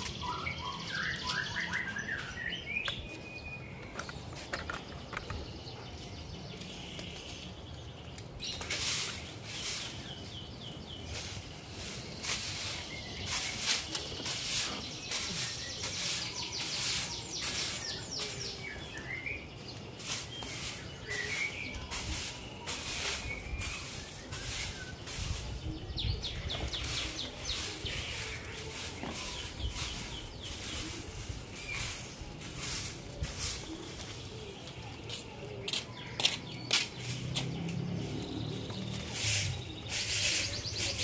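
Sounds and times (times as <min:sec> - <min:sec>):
stick broom sweeping concrete: 0:06.6 - 0:41.0.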